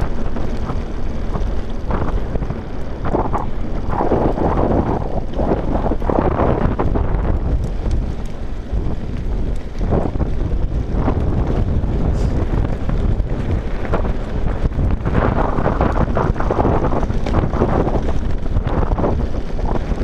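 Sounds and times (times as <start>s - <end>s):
bike tyres rolling on gravel: 0.0s - 20.0s
wind on microphone: 0.0s - 20.0s.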